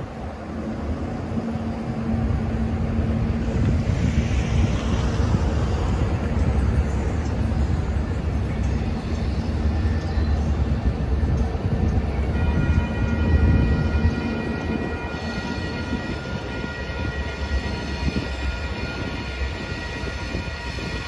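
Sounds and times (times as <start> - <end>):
diesel locomotive engine rumble: 0.0 - 21.0.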